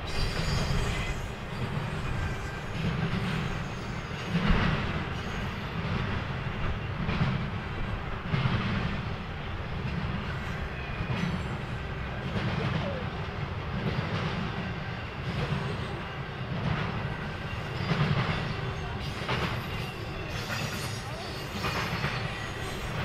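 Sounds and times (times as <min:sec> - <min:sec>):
freight train rumble: 0:00.0 - 0:23.0
train wheels clacking over rail joints: 0:00.0 - 0:23.0.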